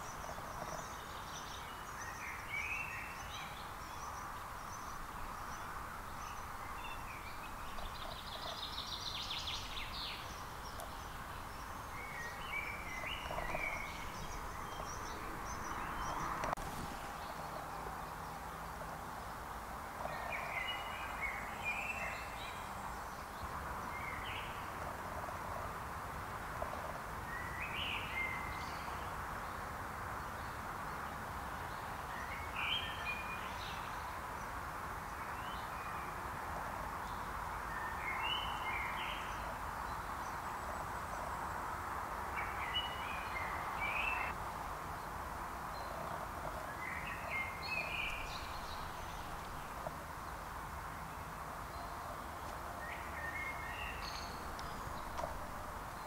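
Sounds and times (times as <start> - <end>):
background hiss of woods: 0.0 - 56.0
songbird singing: 0.0 - 56.0.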